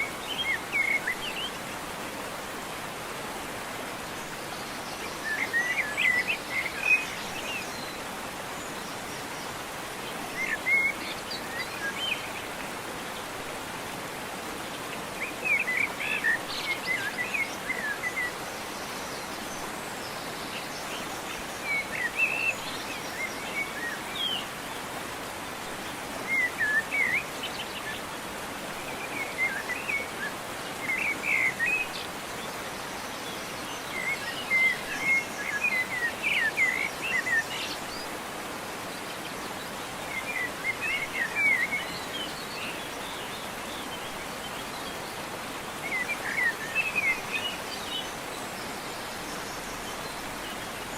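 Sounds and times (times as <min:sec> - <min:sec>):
falling water rushing: 0:00.0 - 0:50.9
songbirds chirping: 0:00.0 - 0:50.9.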